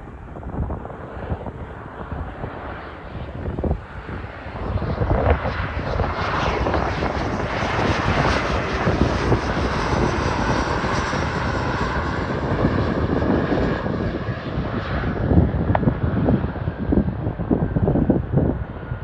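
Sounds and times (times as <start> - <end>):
jet engines passing overhead: 0.0 - 19.0.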